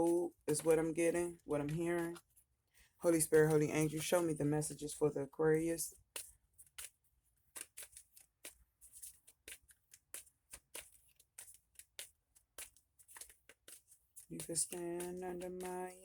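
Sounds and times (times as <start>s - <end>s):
cards being shuffled: 0.0s - 2.4s, 3.0s - 5.0s, 5.8s - 16.0s.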